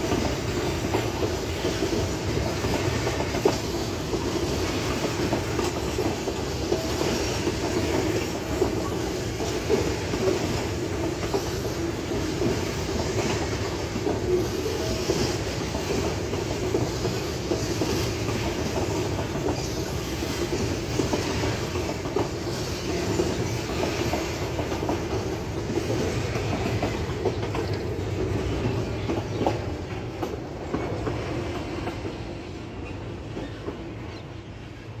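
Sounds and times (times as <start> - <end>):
train wheels rumbling on rails: 0.0 - 35.0
wheels clacking over rail joints: 0.0 - 35.0.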